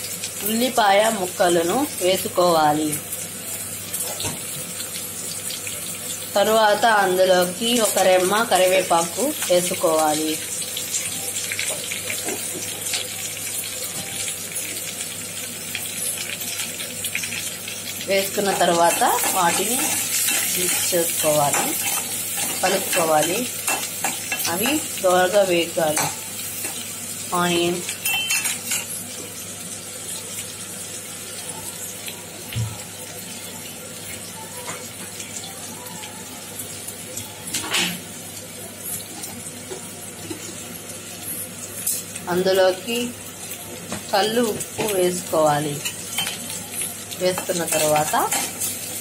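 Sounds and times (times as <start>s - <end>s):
onions sizzling in hot oil: 0.0s - 49.0s.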